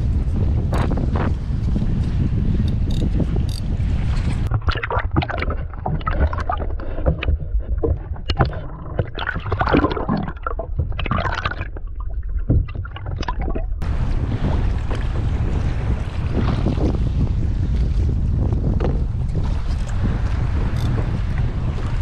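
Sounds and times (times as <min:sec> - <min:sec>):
water sloshing around kayak: 0:00.0 - 0:22.0
wind noise: 0:00.0 - 0:22.0
water splashes: 0:03.8 - 0:22.0.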